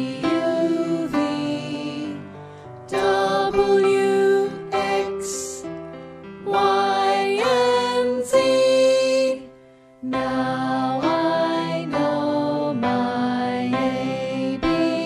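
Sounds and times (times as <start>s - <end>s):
children's song music: 0.0s - 15.0s.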